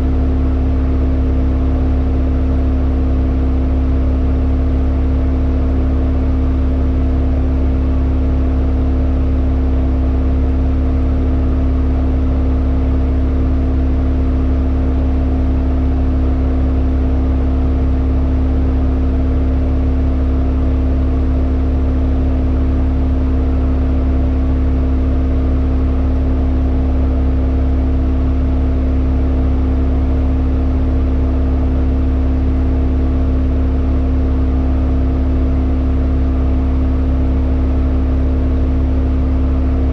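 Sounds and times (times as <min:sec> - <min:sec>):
car engine steady drone: 0:00.0 - 0:39.9.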